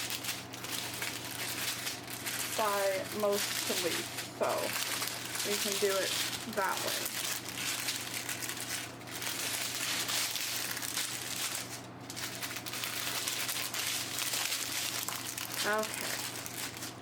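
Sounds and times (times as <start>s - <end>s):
plastic packets crinkling: 0.0s - 17.0s.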